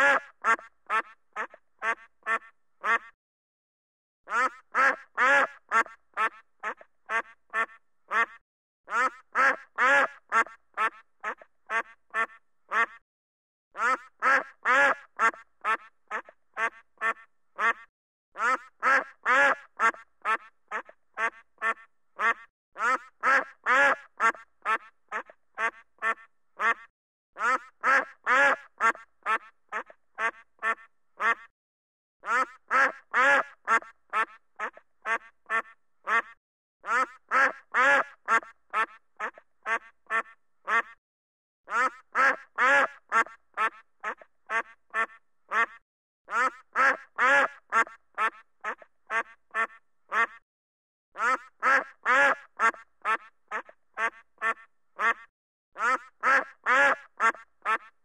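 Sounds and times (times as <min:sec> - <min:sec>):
duck quacking: 0:00.0 - 0:03.2, 0:04.3 - 0:13.0, 0:13.8 - 0:31.5, 0:32.2 - 0:41.0, 0:41.7 - 0:50.4, 0:51.2 - 0:58.0.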